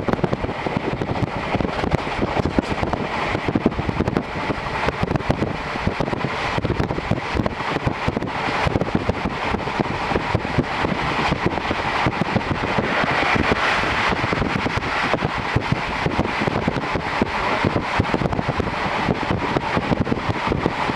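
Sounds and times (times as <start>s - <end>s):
rushing wind: 0.0s - 20.9s
train wheels rumbling on rails: 0.0s - 20.9s.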